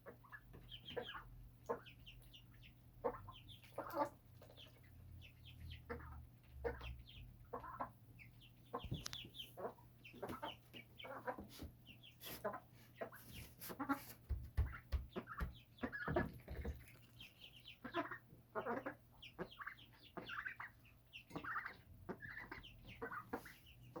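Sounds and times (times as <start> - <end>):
flock of birds chirping: 0.0 - 24.0.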